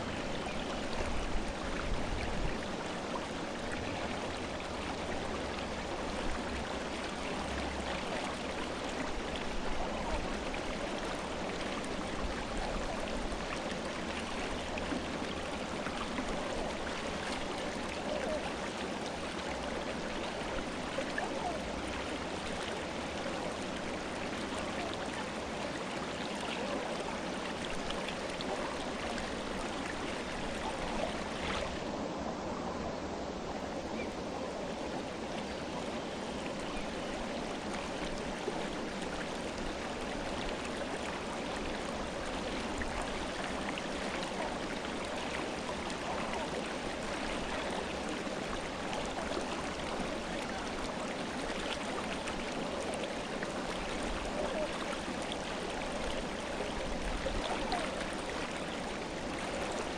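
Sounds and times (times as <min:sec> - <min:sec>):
river rushing over rocks: 0:00.1 - 0:59.9.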